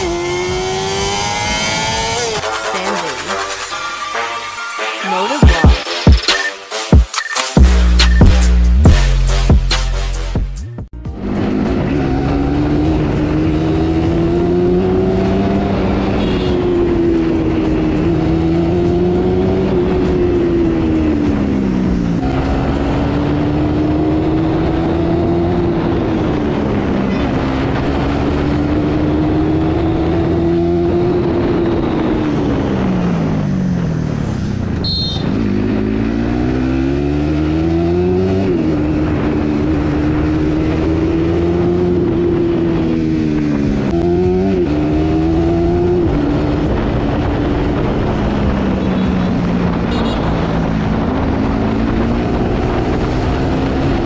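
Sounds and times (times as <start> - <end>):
motorcycle engine revving: 0.0 - 3.7, 11.0 - 54.0.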